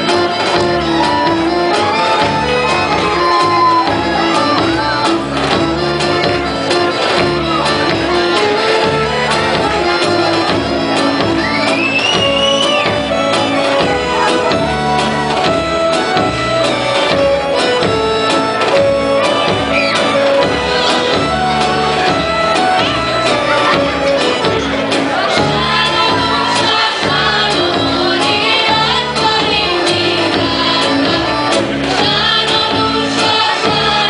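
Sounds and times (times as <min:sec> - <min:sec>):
folk dance music: 0:00.0 - 0:34.0.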